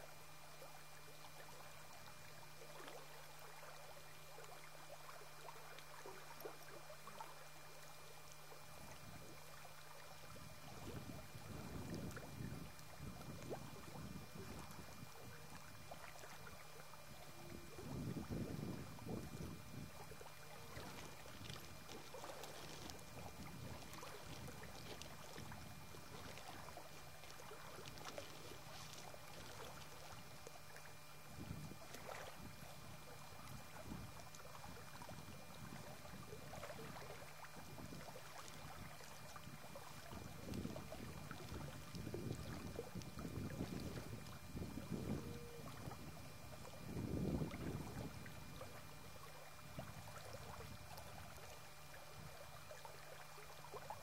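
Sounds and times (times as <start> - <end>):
low steady hum: 0.0 - 54.0
wind: 0.0 - 54.0.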